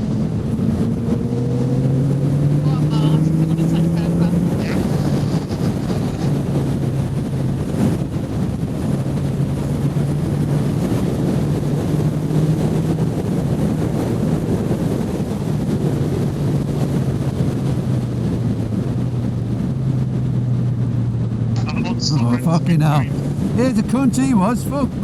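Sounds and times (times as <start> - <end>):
motorcycle engine cruising: 0.0 - 25.0
wind rush on microphone: 0.0 - 25.0.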